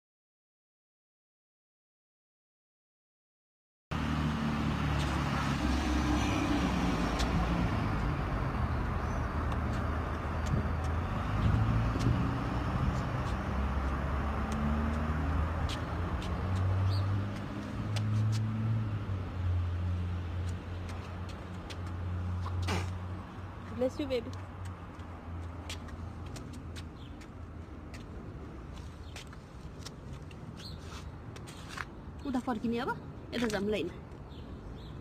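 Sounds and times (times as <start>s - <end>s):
traffic engine hum: 3.9s - 35.0s.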